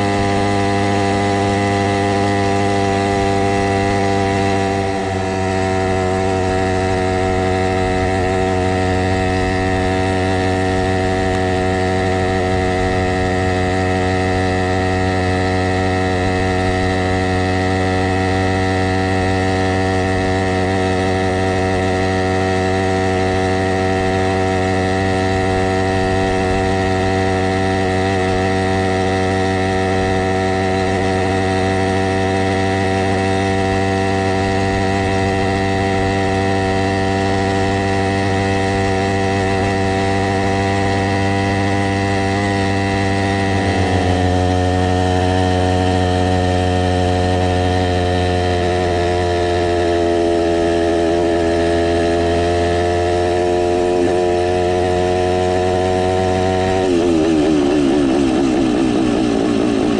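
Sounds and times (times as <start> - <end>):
two-stroke engine droning: 0.0 - 59.9.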